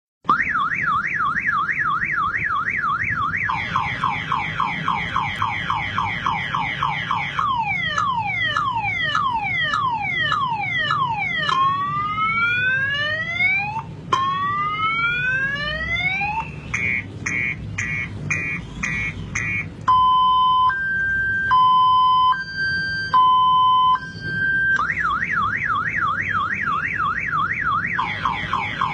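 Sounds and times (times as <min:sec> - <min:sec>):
car alarm siren: 0:00.2 - 0:28.9.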